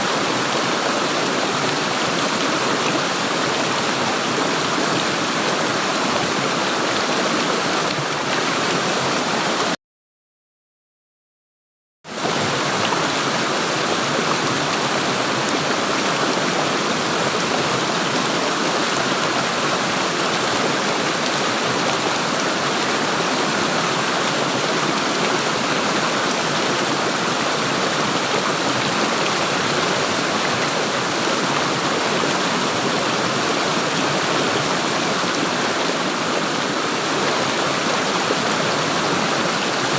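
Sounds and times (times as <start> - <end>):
rushing flowing water: 0.0 - 9.8, 12.1 - 39.9.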